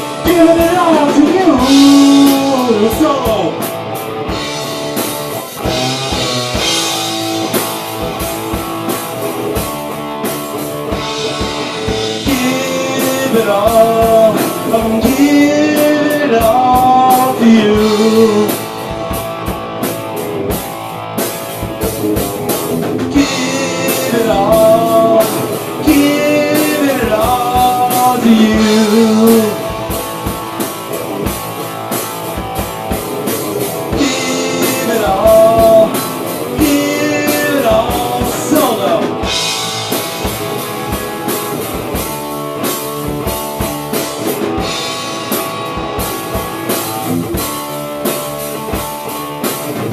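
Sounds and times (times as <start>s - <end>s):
drum kit with cymbals: 0.0s - 49.9s
electric guitar: 0.0s - 49.9s.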